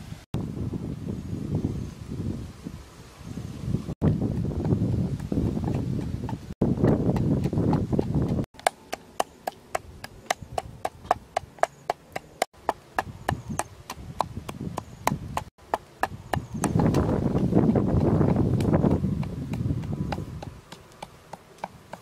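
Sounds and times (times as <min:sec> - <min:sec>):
pestle pounding in mortar: 0:04.0 - 0:22.0.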